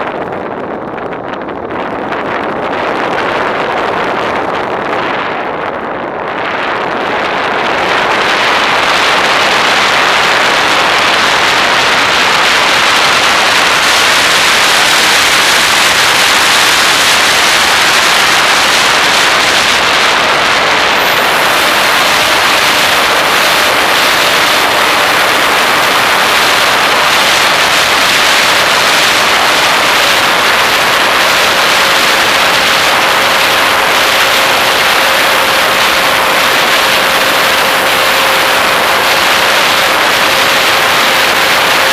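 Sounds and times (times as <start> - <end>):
rush of air: 0.0 - 41.9
thin high whine: 2.3 - 41.9.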